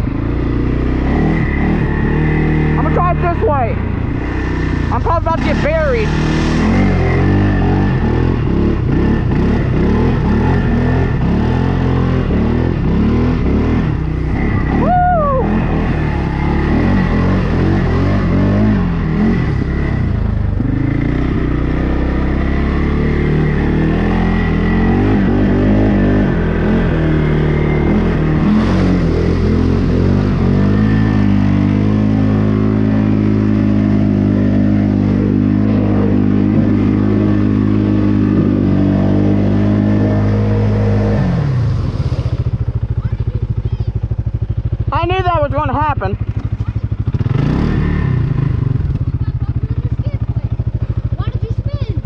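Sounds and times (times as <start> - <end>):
wheels spinning in mud: 0.0 - 51.9
atv engine revving: 0.0 - 52.0.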